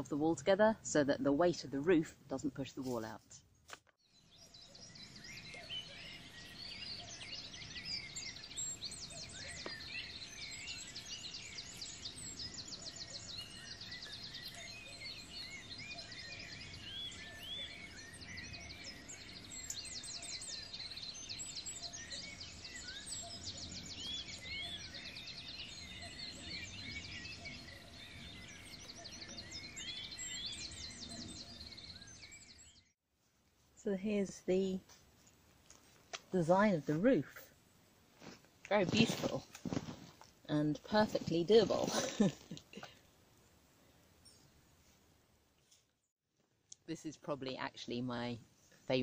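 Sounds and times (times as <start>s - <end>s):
songbirds chirping and trilling: 0.0s - 32.9s, 33.8s - 45.0s.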